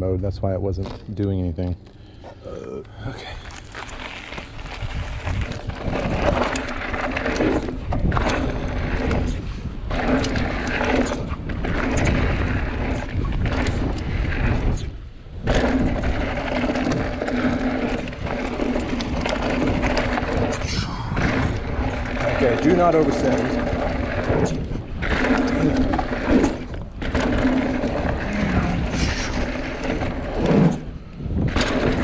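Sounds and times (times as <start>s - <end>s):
bike tyres rolling over dirt: 0.4s - 32.0s
wind on microphone: 3.2s - 32.0s.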